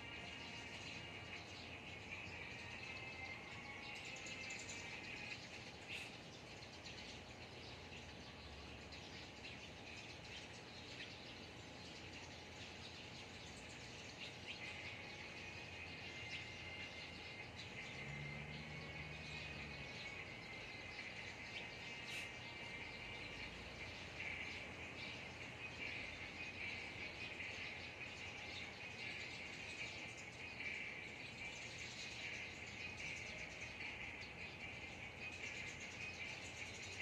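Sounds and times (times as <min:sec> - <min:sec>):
bird chirps: 0:00.0 - 0:37.0.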